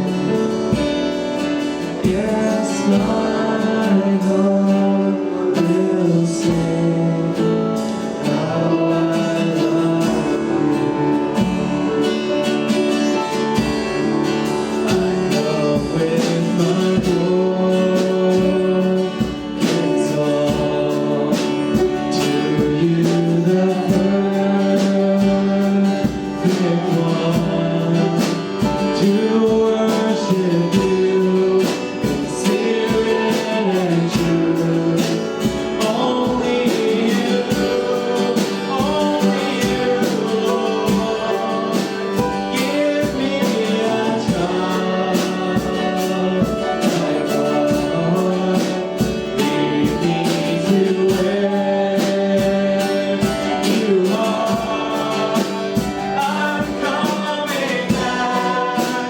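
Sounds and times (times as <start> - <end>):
guitar: 0.0 - 59.0
people singing worship music: 0.0 - 59.0
steady beat: 5.6 - 59.0.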